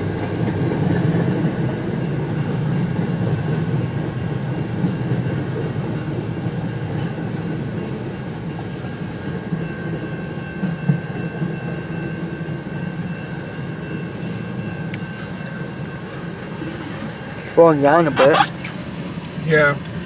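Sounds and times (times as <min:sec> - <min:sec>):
freight train wheels rumbling: 0:00.0 - 0:18.1.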